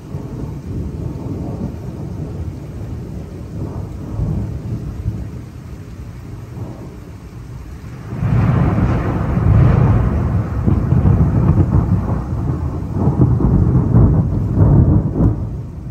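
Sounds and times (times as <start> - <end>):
thunder rumbling: 0.0 - 15.9.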